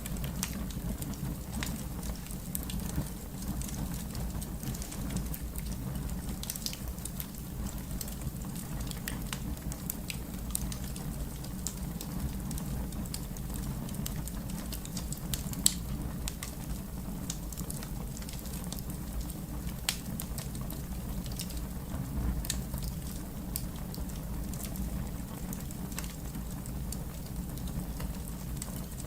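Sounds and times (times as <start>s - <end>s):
fire crackling and popping: 0.0s - 29.0s.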